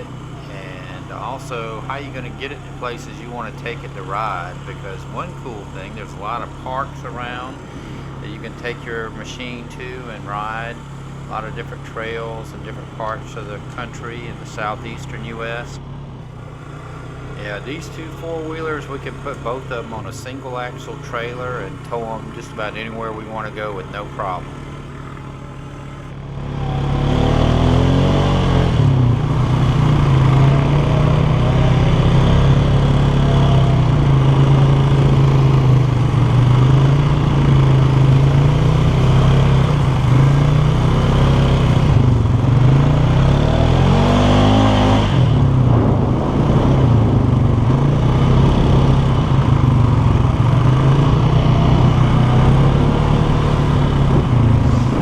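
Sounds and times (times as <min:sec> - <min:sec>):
atv engine revving while riding: 0:00.0 - 0:55.0.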